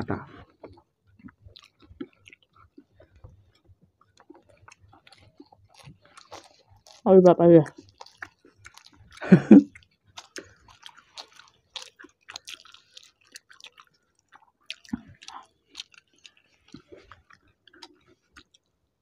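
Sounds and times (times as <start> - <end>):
chewing and wet mouth clicks: 0.4 - 18.7.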